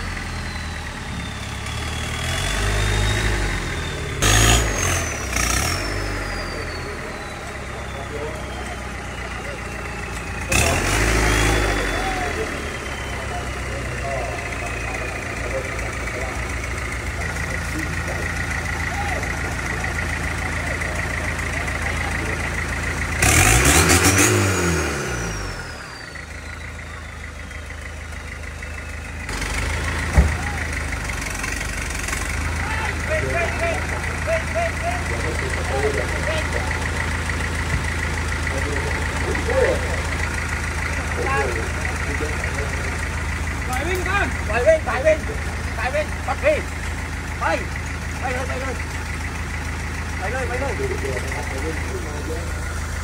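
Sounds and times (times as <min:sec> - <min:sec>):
off-road vehicle engine running: 0:00.0 - 0:53.0.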